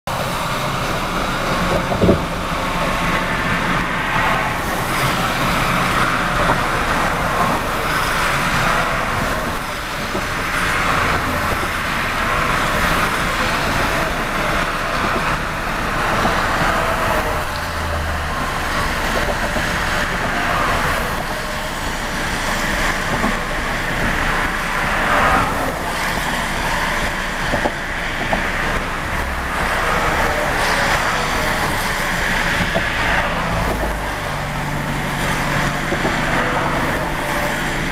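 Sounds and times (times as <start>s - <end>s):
vehicle road noise: 0.0s - 37.9s.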